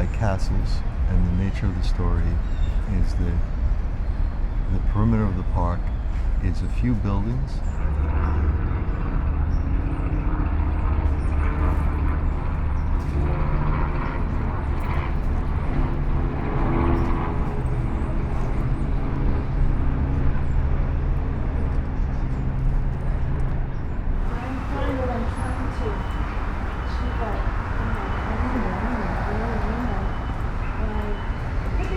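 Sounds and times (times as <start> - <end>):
large engine humming: 0.0 - 31.9.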